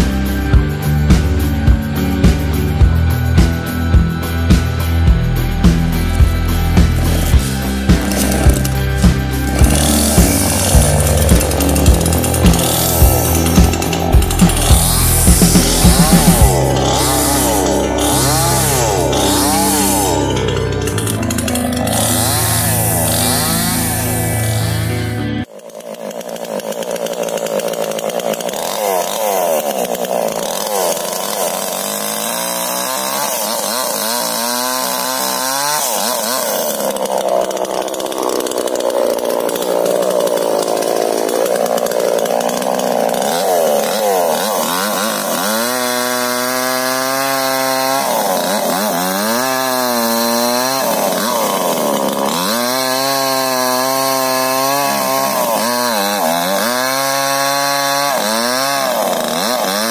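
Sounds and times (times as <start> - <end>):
chainsaw cutting into tree trunk: 0.0 - 59.9.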